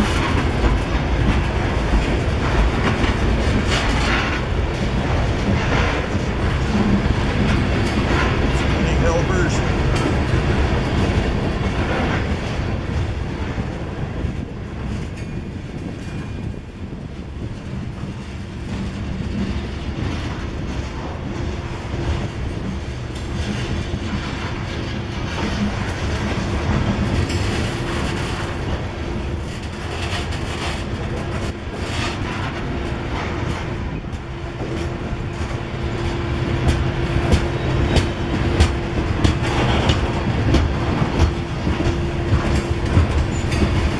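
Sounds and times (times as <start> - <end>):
wheels clicking over rail joints: 0.0 - 8.8, 17.5 - 43.9
freight train rumbling past: 0.0 - 43.9.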